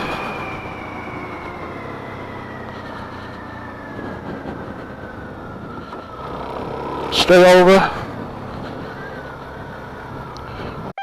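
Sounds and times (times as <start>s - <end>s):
motorcycle engine slowing: 0.0s - 10.9s
road and wind noise: 0.0s - 11.0s.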